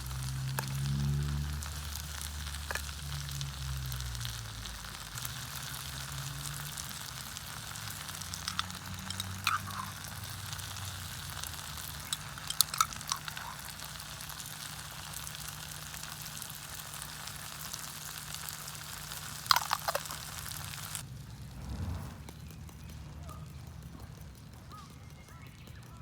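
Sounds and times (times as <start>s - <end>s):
food sizzling with pops: 0.0s - 26.0s.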